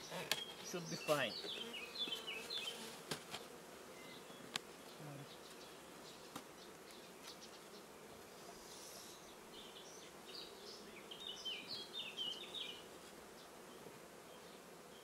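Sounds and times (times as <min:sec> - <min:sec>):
bees humming faintly: 0:00.0 - 0:15.0.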